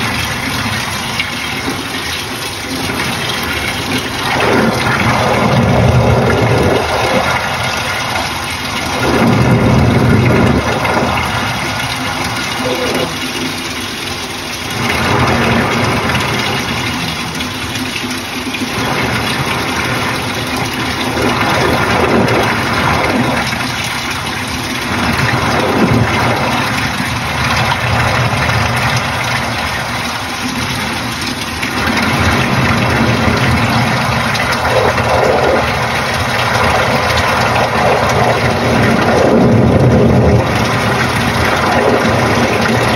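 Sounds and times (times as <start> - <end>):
washing machine motor: 0.0 - 42.9
water churning: 0.0 - 42.9.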